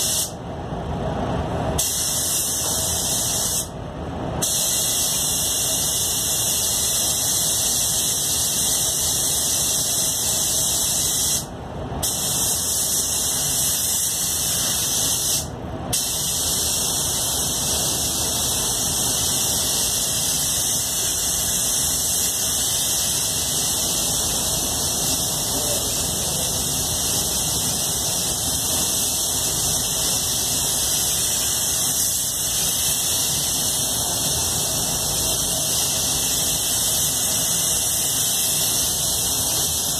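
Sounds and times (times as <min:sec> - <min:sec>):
spray gun hissing: 0:00.0 - 0:00.4, 0:01.8 - 0:03.7, 0:04.4 - 0:39.9.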